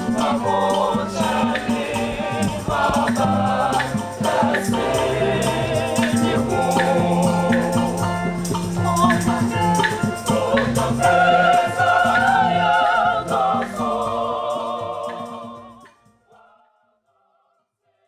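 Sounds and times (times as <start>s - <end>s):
bass and percussion: 0.0s - 16.0s
choir singing: 0.0s - 18.0s.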